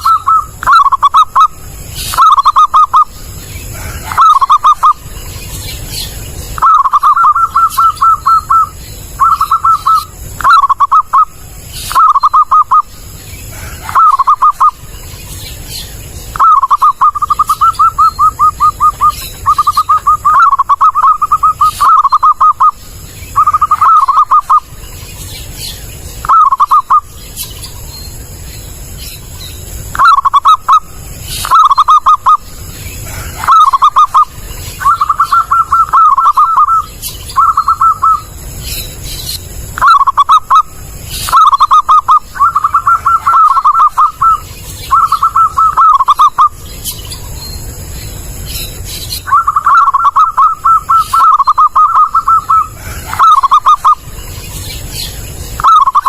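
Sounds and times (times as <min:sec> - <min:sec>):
dove cooing: 0:00.0 - 0:14.9, 0:15.7 - 0:24.8, 0:26.2 - 0:27.2, 0:29.8 - 0:38.4, 0:39.7 - 0:46.6, 0:49.2 - 0:54.2, 0:55.0 - 0:56.0.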